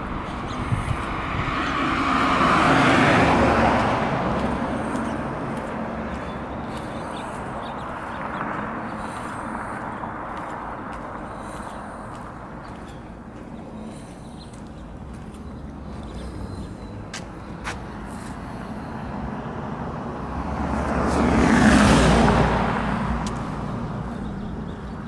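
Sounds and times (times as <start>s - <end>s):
car passing by: 0.0s - 12.8s, 15.1s - 25.0s.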